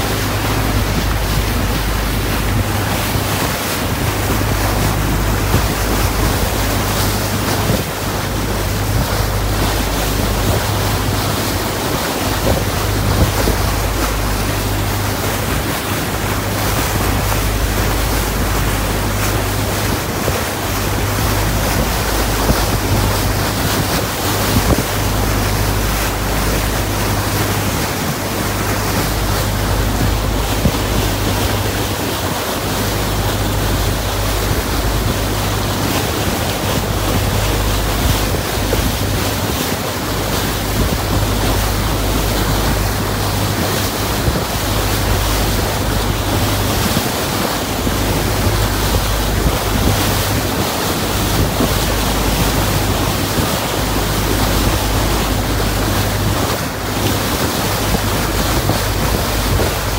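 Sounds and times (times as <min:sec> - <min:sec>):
boat engine droning: 0:00.0 - 0:59.9
water rushing along hull: 0:00.0 - 0:59.9
wind buffeting microphone: 0:00.0 - 0:59.9.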